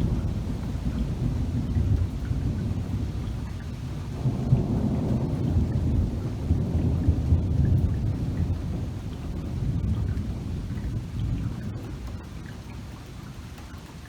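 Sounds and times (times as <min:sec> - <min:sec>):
thunder rumbling: 0:00.0 - 0:12.9
rain falling: 0:00.0 - 0:14.0.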